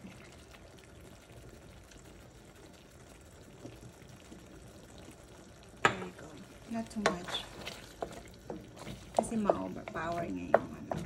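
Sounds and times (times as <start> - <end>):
sauce bubbling in a pan: 0.0 - 11.0.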